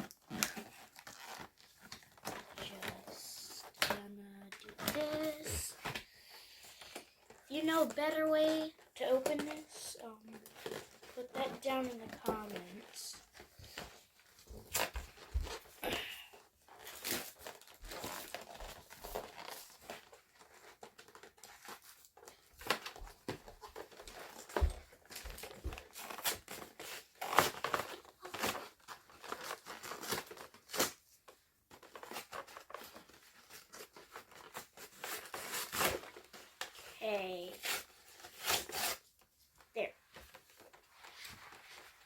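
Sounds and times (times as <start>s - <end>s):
plastic wrap crinkling and tearing: 0.0s - 42.0s.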